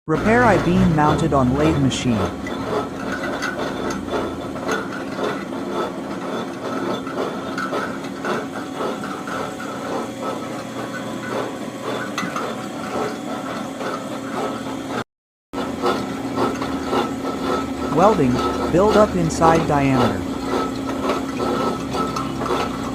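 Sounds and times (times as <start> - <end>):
irregular mechanical clatter: 0.1 - 15.0, 15.6 - 22.9
metal lathe humming: 0.1 - 15.0, 15.6 - 22.9.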